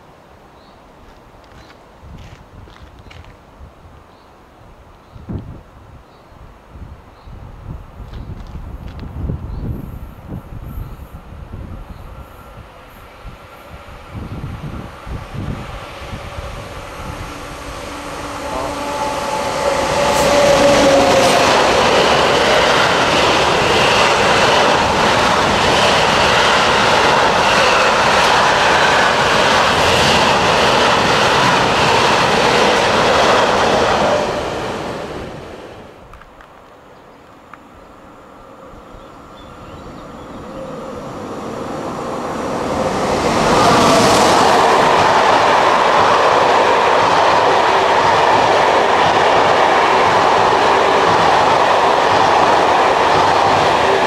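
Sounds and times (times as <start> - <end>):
electric passenger train passing: 7.5 - 54.0
electric freight train passing: 8.4 - 54.0.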